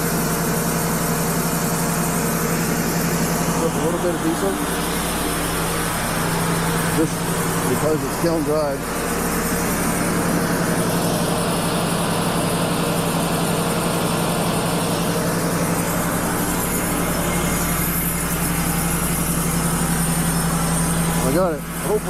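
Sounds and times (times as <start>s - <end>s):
sawmill engine humming: 0.0s - 22.0s.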